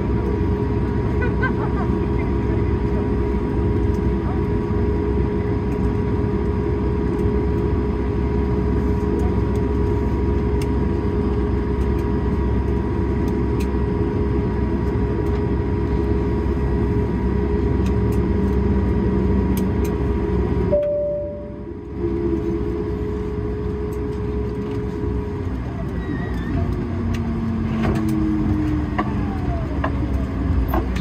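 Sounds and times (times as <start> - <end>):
airplane cabin engine hum: 0.0 - 31.0.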